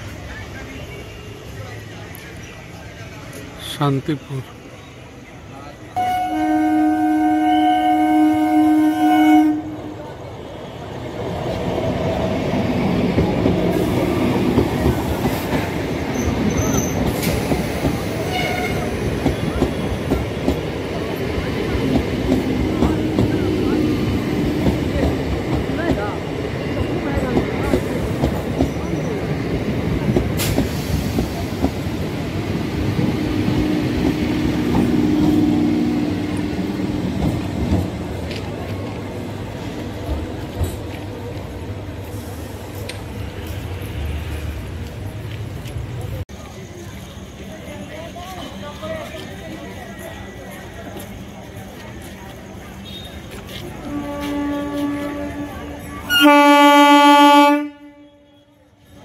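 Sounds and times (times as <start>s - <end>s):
electric train wheels rumbling: 5.9s - 58.0s.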